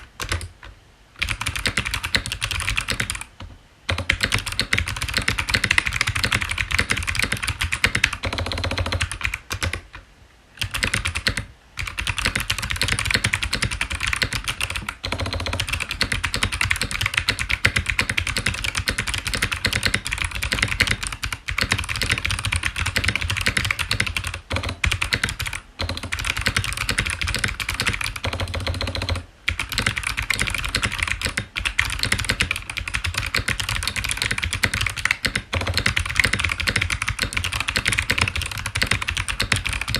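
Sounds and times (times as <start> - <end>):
fast typing on mechanical keyboard: 0.0 - 10.0, 10.6 - 39.9.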